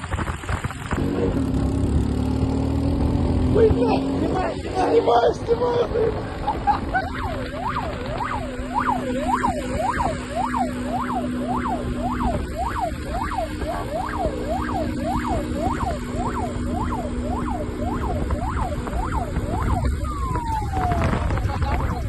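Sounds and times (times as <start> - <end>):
engine drone: 0.0 - 22.0
police siren yelping: 3.5 - 22.0.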